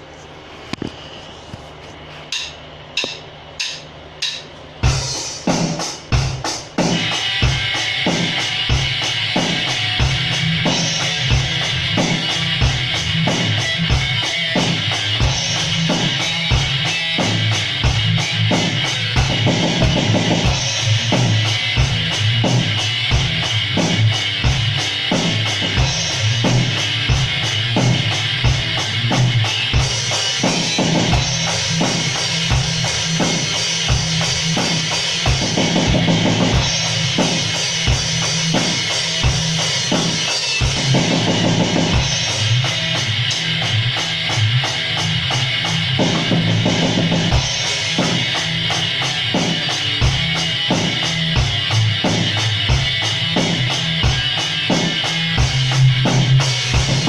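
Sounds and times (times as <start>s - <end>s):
band jamming live: 2.3s - 57.0s.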